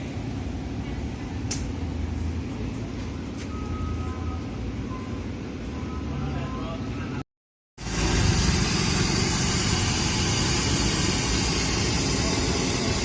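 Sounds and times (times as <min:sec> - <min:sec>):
low engine rumble: 0:00.0 - 0:07.2, 0:07.8 - 0:13.0.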